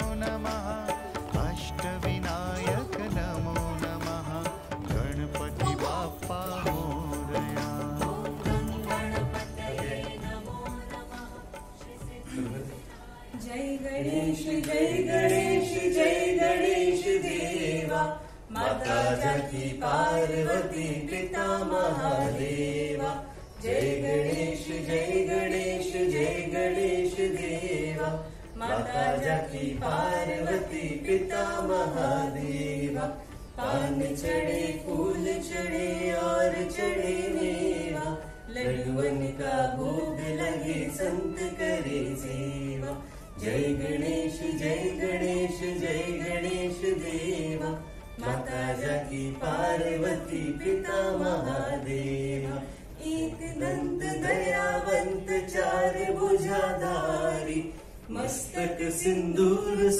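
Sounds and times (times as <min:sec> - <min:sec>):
group chanting a hymn: 0:00.0 - 0:59.9.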